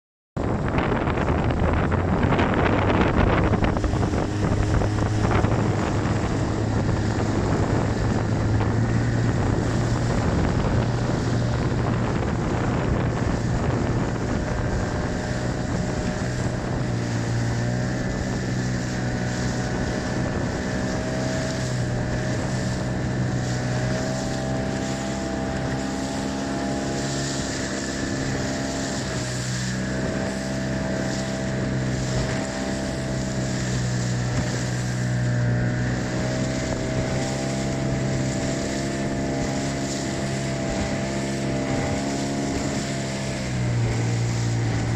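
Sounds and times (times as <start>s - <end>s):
outboard motor running: 0.4s - 44.9s
water noise: 0.4s - 44.9s
wind noise on microphone: 0.4s - 44.9s.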